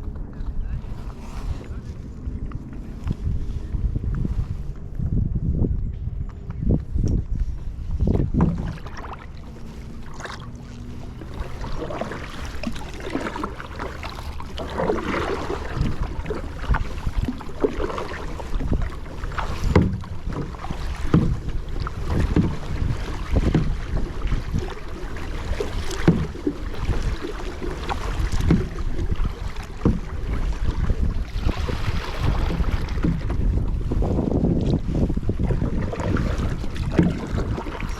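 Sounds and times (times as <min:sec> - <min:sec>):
paddle splashing in water: 0:00.0 - 0:04.8, 0:07.4 - 0:37.9
wind rumble on microphone: 0:00.0 - 0:37.9.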